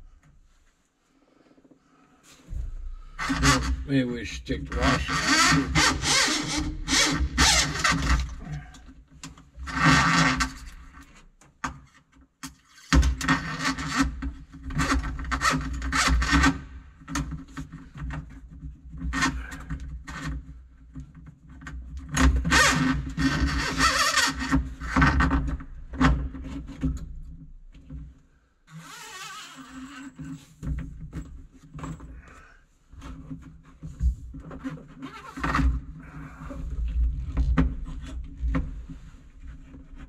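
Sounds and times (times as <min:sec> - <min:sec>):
scraping and rubbing of cable: 0:01.5 - 0:11.3, 0:12.6 - 0:40.0.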